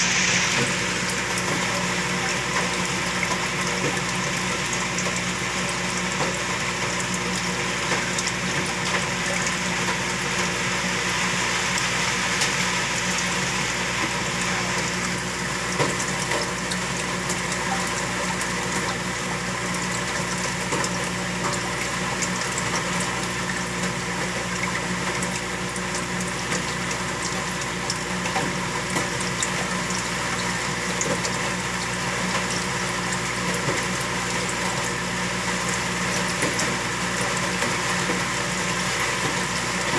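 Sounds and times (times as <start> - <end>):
aquarium pump humming: 0.0 - 39.9
bubbling splashing water: 0.0 - 39.9.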